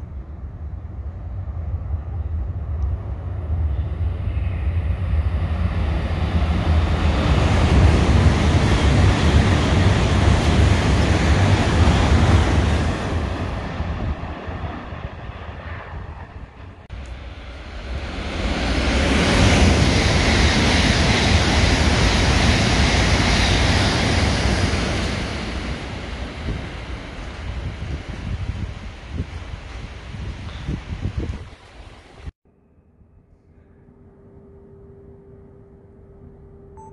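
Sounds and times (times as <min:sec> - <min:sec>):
high-speed train passing: 0:00.0 - 0:32.4.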